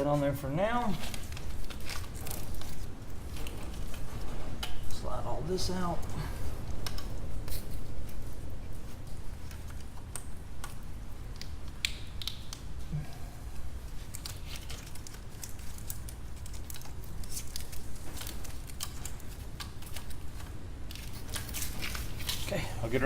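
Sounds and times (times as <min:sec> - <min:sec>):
steady low hum: 0:00.0 - 0:23.0
wiring harness rustling and clicking: 0:00.0 - 0:23.0.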